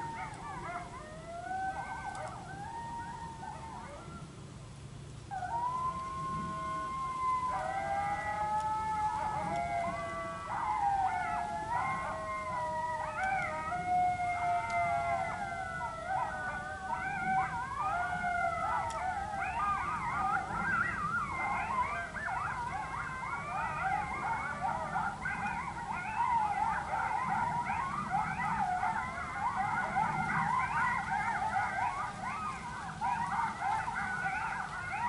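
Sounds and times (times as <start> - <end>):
coyote howls and yips from a speaker: 0.0 - 4.4, 5.3 - 35.0.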